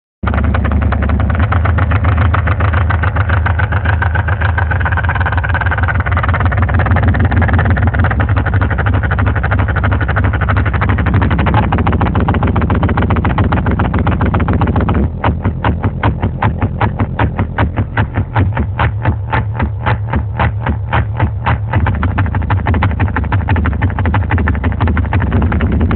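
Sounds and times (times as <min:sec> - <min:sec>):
bass-heavy music from car speakers: 0:00.2 - 0:25.9.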